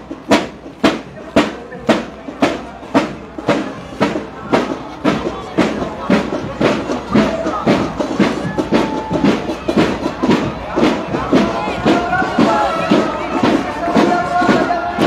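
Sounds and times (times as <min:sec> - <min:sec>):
marching drums: 0:00.0 - 0:15.0.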